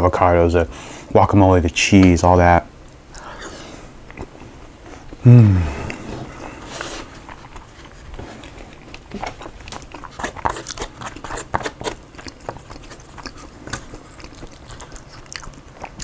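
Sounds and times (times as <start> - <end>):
chewing with crunches: 2.9 - 16.0.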